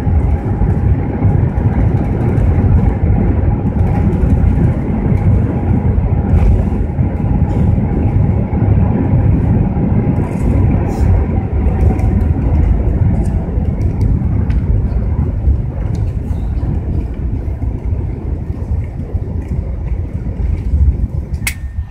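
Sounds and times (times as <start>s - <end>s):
aircraft cabin rumble: 0.0s - 21.9s.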